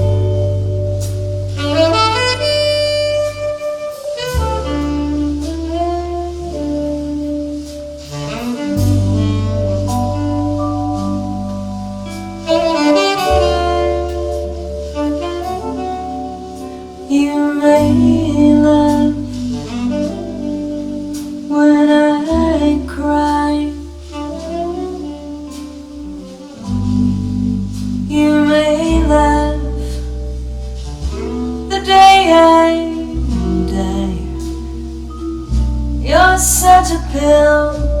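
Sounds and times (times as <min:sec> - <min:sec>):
low bass notes: 0:00.0 - 0:38.0
snare drum brushes: 0:00.0 - 0:38.0
tenor saxophone melody: 0:00.0 - 0:38.0.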